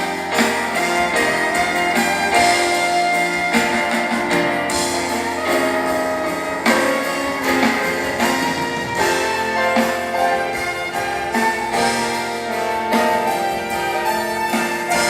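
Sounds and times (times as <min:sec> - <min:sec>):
guitar: 0:00.0 - 0:15.0
live band playing: 0:00.0 - 0:15.0.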